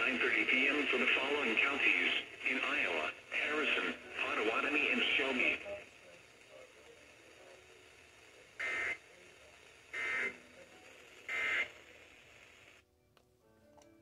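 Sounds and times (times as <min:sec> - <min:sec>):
faint radio hiss: 0:00.0 - 0:14.0.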